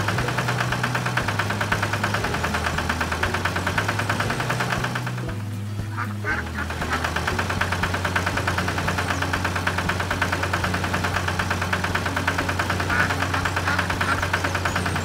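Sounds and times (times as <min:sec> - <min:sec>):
tractor engine chugging: 0:00.0 - 0:15.0.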